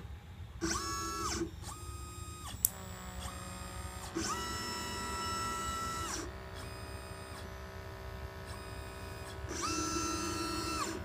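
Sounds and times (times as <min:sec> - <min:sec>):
steady machine hum: 0:00.0 - 0:11.0
stepper motors whining: 0:00.0 - 0:11.0.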